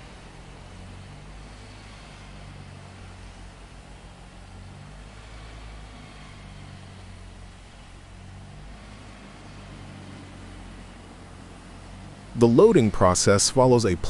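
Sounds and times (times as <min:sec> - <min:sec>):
heavy machinery running: 0:00.0 - 0:14.0.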